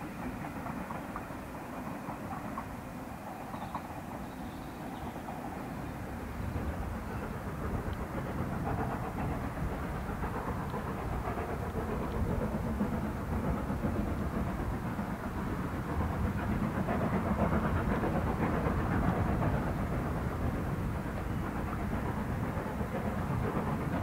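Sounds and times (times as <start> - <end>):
distant train rumbling on rails: 0.0 - 24.0.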